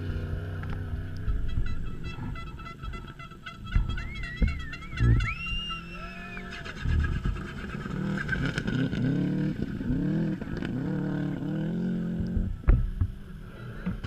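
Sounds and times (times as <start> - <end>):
rally car engine revving: 0.0 - 2.5, 3.8 - 14.0.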